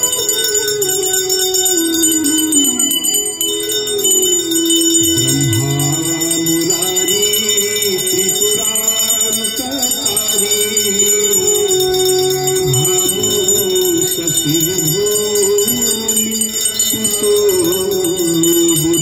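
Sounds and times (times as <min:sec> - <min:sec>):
devotional hymn singing: 0:00.0 - 0:19.0
hand bells ringing: 0:00.0 - 0:19.0.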